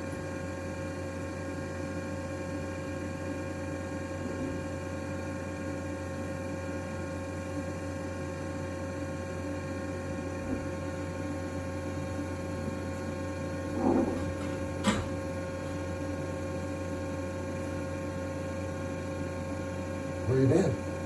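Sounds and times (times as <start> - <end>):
buzzy mains hum: 0.0 - 21.0.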